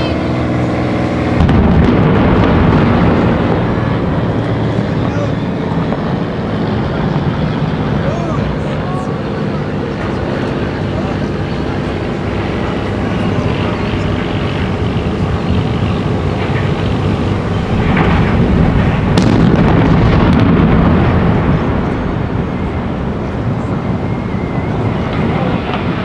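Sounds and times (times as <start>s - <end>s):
demolition rumbling roar: 0.0s - 26.0s.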